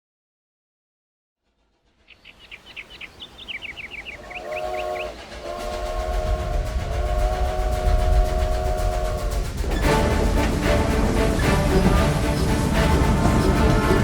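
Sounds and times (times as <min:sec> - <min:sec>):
low rumble of train: 0:01.4 - 0:14.0
steam locomotive chord whistle: 0:02.3 - 0:14.0.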